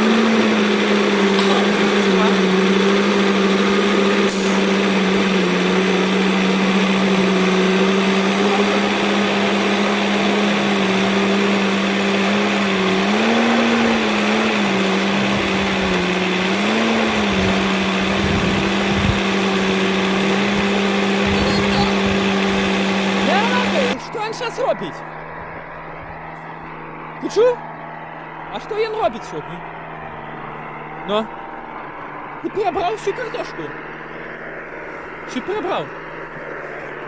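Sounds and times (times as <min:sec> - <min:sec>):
engine droning hum: 0:00.0 - 0:37.0.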